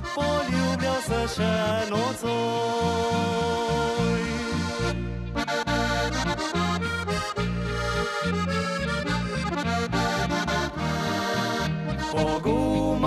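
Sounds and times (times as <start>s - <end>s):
bass and guitar accompaniment: 0.0s - 13.0s
button accordion: 0.0s - 13.0s.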